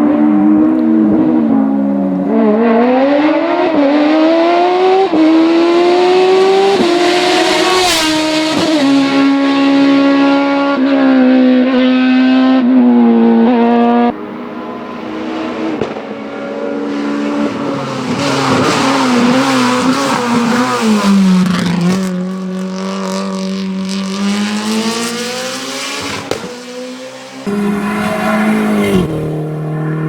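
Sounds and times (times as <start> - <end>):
car accelerating away: 0.0 - 30.0
race car engine at high revs: 0.0 - 30.0.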